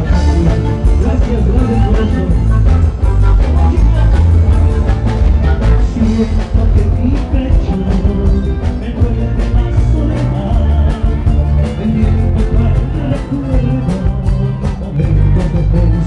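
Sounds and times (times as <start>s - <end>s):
band playing music: 0.0s - 16.0s
heavy bass: 0.0s - 16.0s
steady drum beat: 0.0s - 16.0s.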